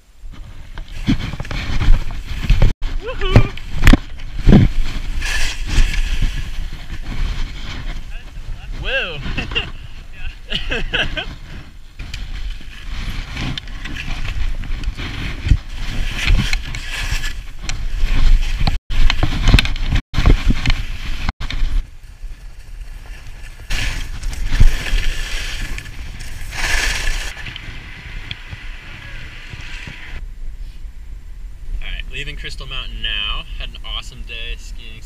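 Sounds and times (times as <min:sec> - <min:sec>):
wind buffeting microphone: 0:00.2 - 0:31.8
skis scraping over snow: 0:00.4 - 0:30.2.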